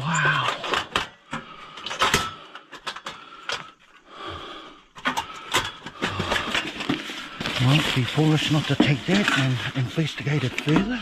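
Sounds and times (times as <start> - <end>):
camping stove clattering: 0.4 - 4.0, 5.0 - 11.0.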